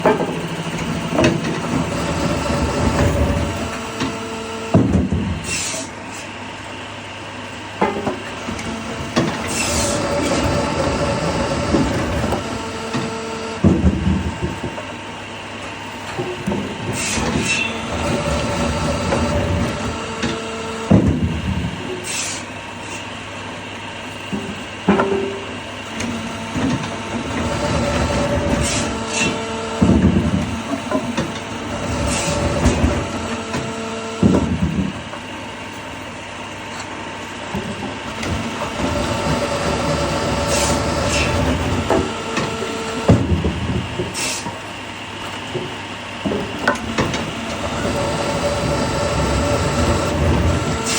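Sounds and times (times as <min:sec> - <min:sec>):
woodworking machine humming: 0:00.0 - 0:50.9.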